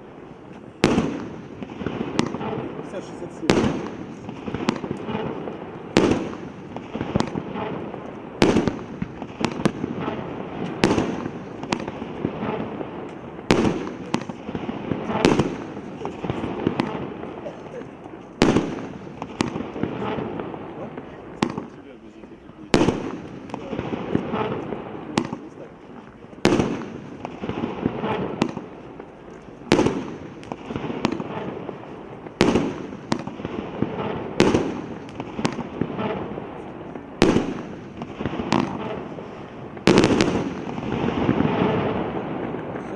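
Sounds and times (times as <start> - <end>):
firework bangs: 0.0 - 42.9.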